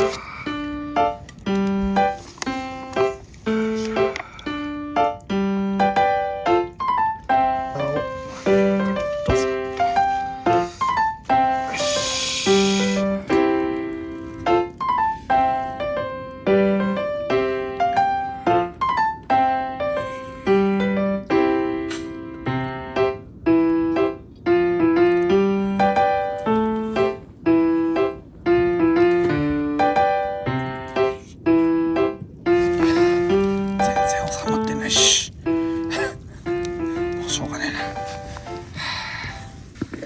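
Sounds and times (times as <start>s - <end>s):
piano melody: 0.0s - 40.0s.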